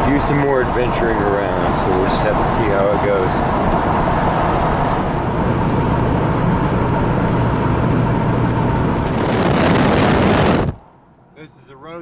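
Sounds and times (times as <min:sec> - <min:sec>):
low engine hum: 0:00.0 - 0:11.4
road and wind noise: 0:00.0 - 0:12.0.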